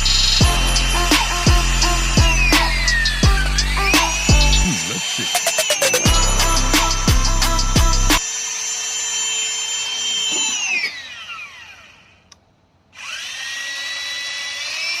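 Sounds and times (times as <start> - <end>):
electric drill motor whining: 0.0 - 15.0.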